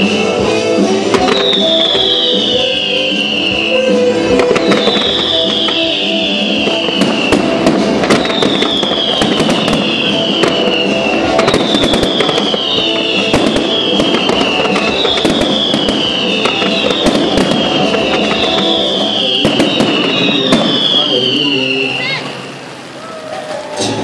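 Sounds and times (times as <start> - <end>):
music playing: 0.0 - 22.9
fireworks bangs and crackling: 0.0 - 24.0.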